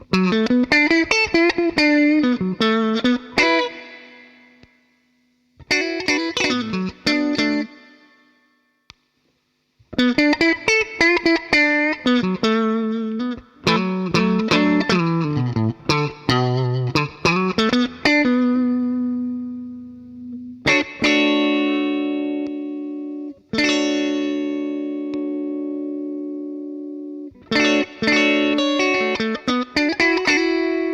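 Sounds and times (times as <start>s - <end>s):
overdriven electric guitar: 0.0s - 8.6s, 9.8s - 30.9s.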